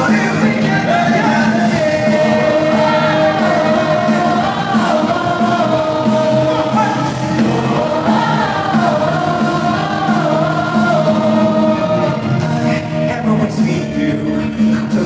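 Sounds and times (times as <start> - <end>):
live pop-rock band: 0.0 - 15.0
person singing: 0.0 - 15.0.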